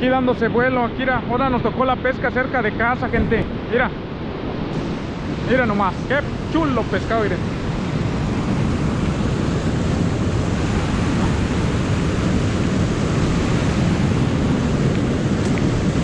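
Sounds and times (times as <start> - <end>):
river water rushing over dam: 0.0 - 16.0
wind buffeting microphone: 0.0 - 16.0.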